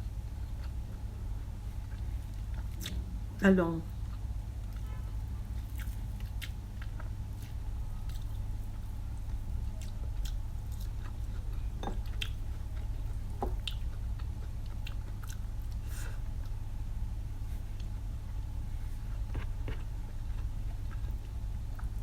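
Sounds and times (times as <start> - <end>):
steady low hum: 0.0 - 22.0
chewing and biting food: 0.3 - 3.1, 4.0 - 16.6, 17.4 - 22.0.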